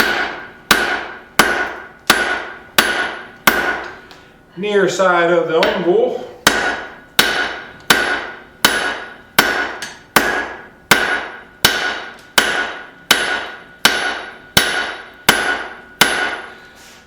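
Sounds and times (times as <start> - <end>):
hammer ringing on hot metal: 0.0 - 3.9, 5.6 - 16.6.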